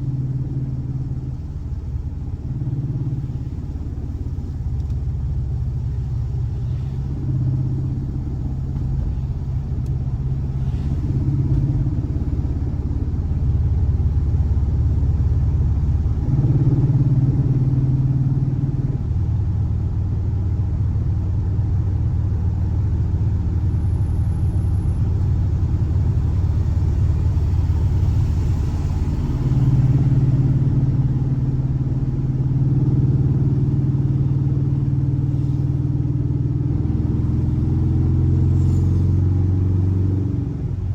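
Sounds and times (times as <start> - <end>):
car engine droning: 0.0 - 40.9.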